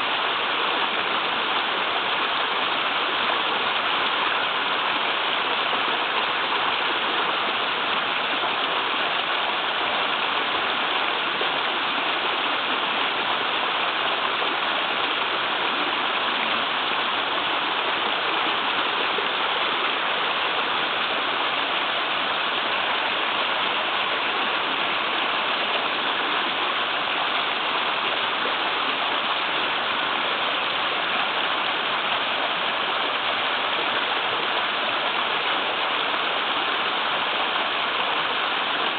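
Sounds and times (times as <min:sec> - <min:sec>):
small waterfall rushing: 0:00.0 - 0:38.9.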